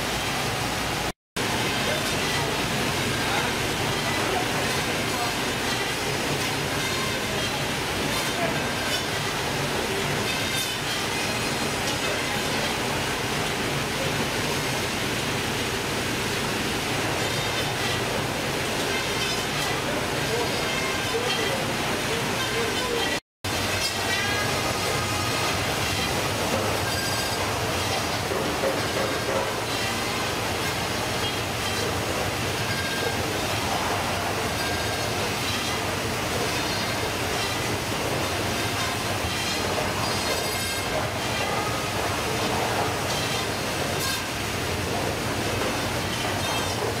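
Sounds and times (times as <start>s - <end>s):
fish-processing machinery rushing: 0.0s - 47.0s.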